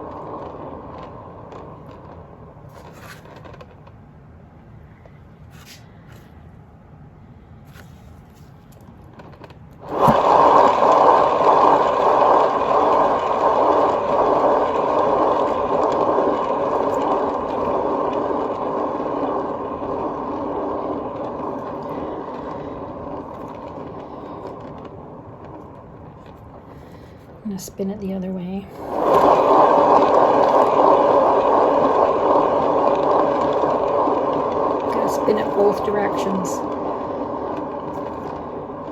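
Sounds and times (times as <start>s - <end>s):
paint spinner turning: 0.0s - 6.3s, 7.7s - 38.9s.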